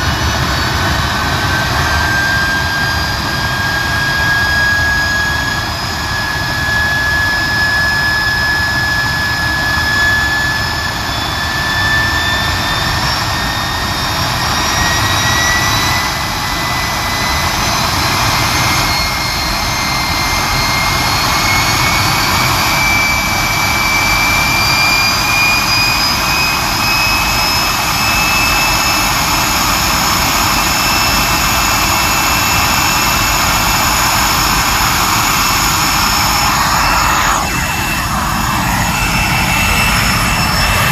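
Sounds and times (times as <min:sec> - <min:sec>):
high whine rising in pitch: 0:00.0 - 0:40.9
jet engine roar: 0:00.0 - 0:40.9.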